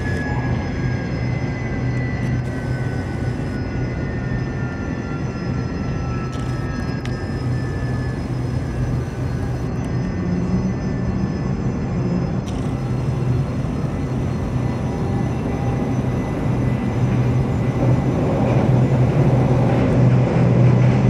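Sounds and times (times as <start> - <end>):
jet engine rumble and whine: 0.0 - 21.0.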